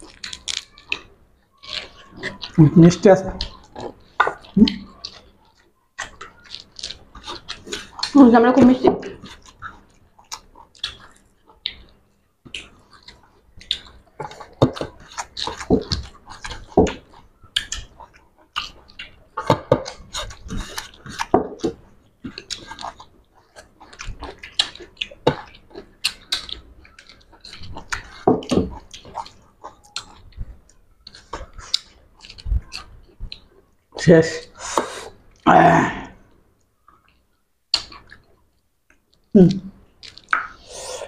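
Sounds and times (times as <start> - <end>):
people chewing with mouth smacks: 0.0 - 41.0.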